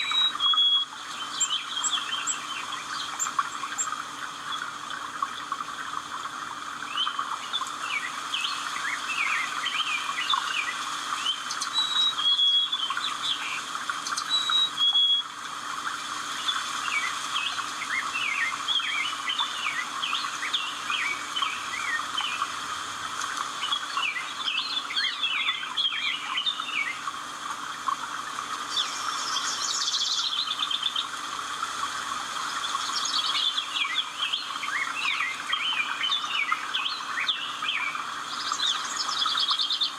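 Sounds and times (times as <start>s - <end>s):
birds chirping and calling: 0.0s - 15.2s, 16.4s - 27.1s, 32.6s - 39.9s.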